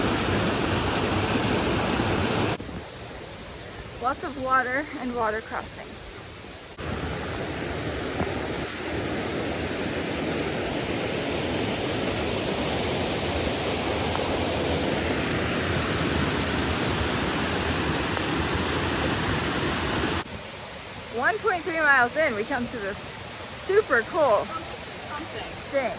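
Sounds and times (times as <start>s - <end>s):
stream rushing over rocks: 0.0s - 5.8s, 6.5s - 25.9s.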